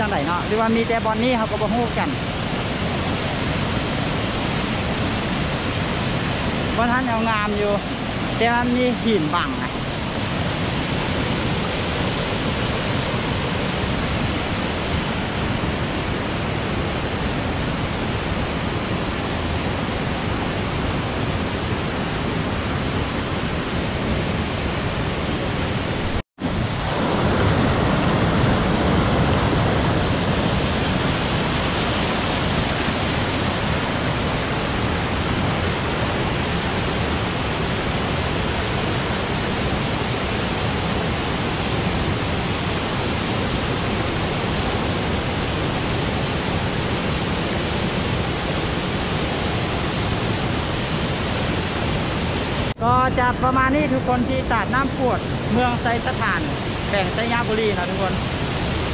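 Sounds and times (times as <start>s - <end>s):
waterfall rushing water: 0.0s - 58.9s.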